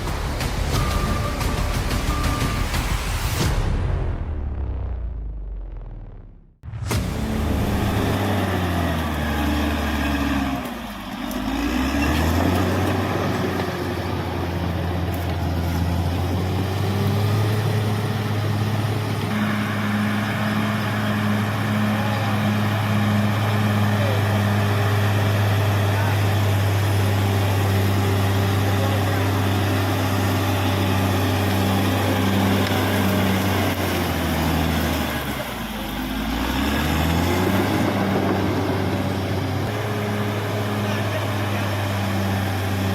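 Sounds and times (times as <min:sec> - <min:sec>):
bulldozer diesel engine running: 0:00.0 - 0:03.5, 0:06.7 - 0:42.9.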